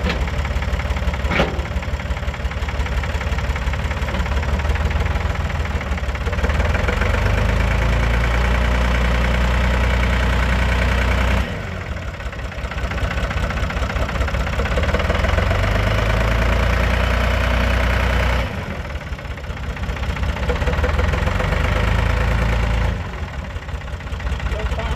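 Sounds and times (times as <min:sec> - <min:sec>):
backhoe engine idling: 0:00.0 - 0:24.9.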